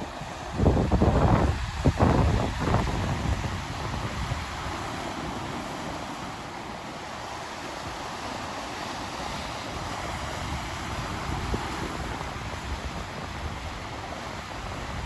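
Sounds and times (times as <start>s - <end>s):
wind buffeting microphone: 0.0s - 7.2s, 7.8s - 15.0s
surf washing onto beach: 0.0s - 15.0s.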